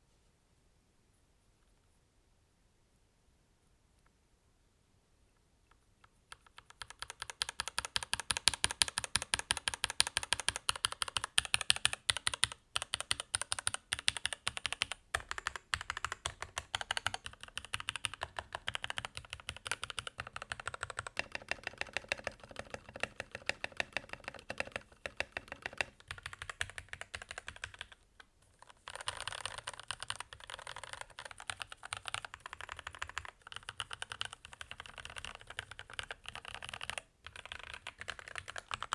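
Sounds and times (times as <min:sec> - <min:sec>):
mechanical keyboard typing: 0:06.3 - 0:28.0, 0:28.6 - 0:38.9.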